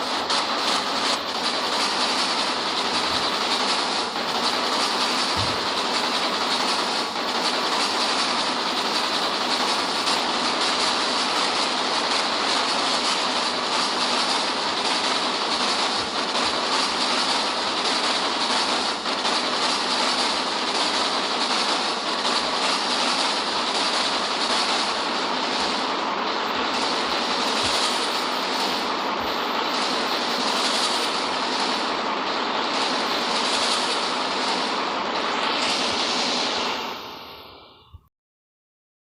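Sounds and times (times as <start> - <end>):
distorted harsh alarm noise: 0.0 - 37.9.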